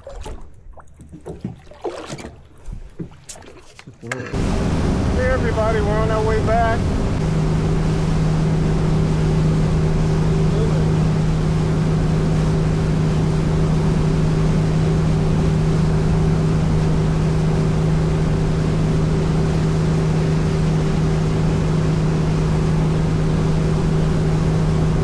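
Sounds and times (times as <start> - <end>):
motorboat engine hum: 0.0 - 25.0
wind and water rushing: 4.3 - 25.0.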